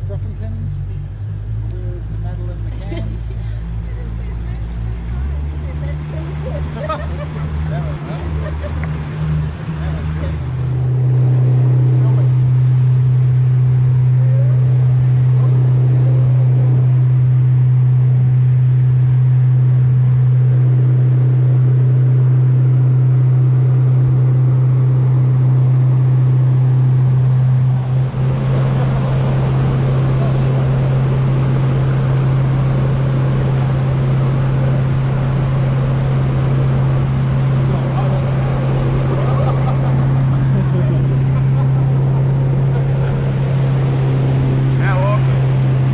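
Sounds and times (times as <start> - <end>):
outboard motor droning: 0.0 - 45.9.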